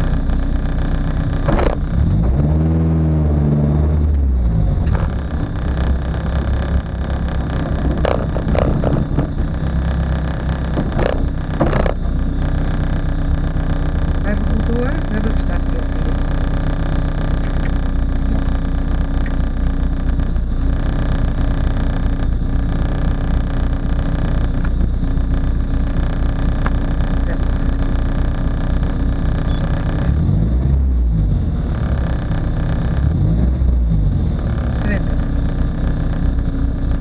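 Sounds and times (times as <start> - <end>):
car engine idling and revving: 0.0 - 37.0.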